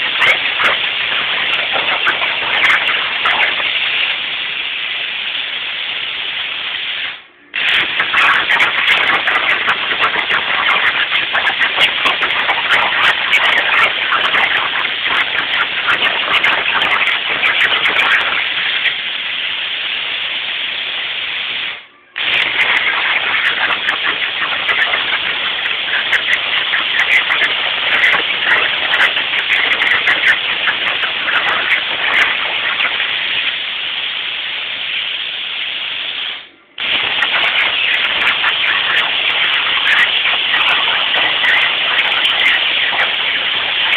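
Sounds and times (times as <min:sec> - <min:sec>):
plasma torch crackling hiss: 0:00.0 - 0:43.9.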